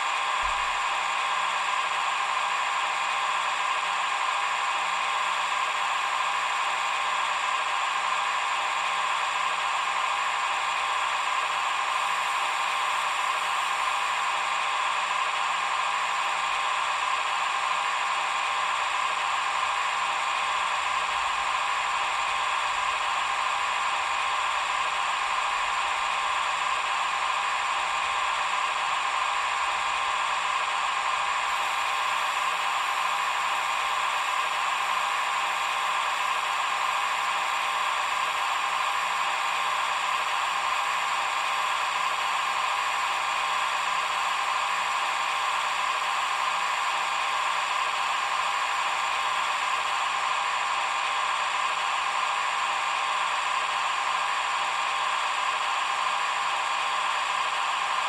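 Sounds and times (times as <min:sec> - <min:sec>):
model crane motor whirring: 0:00.0 - 0:58.0.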